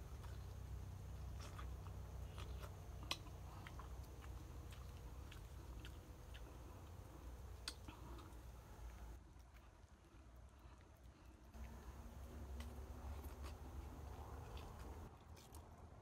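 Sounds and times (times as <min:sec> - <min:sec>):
person biting and chewing: 0:00.1 - 0:09.7, 0:11.6 - 0:15.8.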